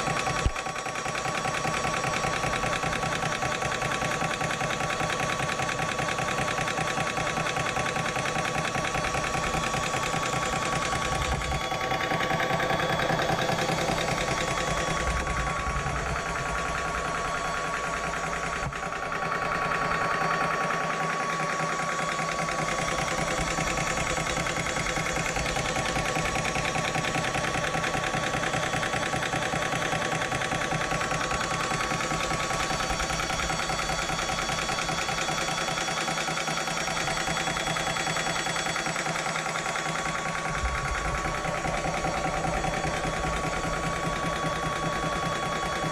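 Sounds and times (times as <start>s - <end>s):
air compressor pulsing: 0.0s - 45.9s.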